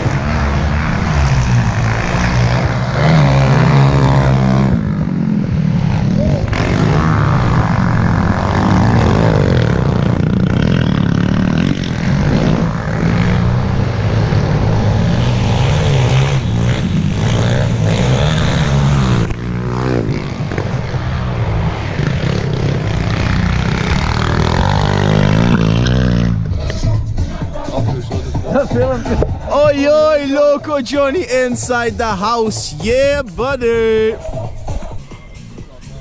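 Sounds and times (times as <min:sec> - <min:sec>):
pit bike engines revving: 0:00.0 - 0:36.0.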